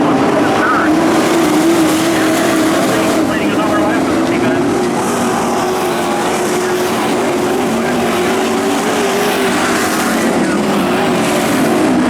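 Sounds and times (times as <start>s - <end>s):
race truck engines running: 0.0s - 12.0s.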